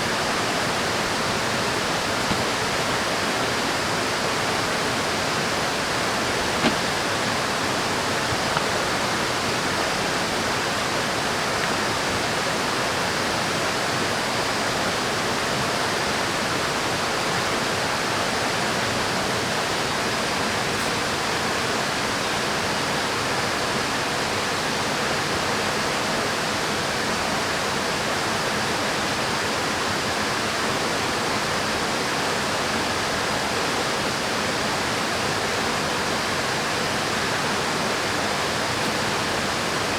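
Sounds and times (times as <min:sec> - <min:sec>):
river water rushing: 0:00.0 - 0:23.0, 0:28.1 - 0:39.9.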